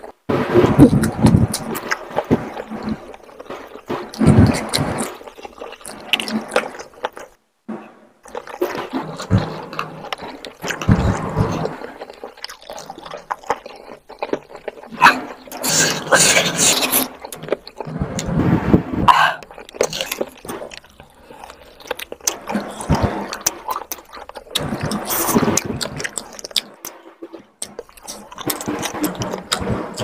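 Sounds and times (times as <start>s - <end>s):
wet chewing and lip-smacking: 0.8s - 7.4s, 8.2s - 30.0s.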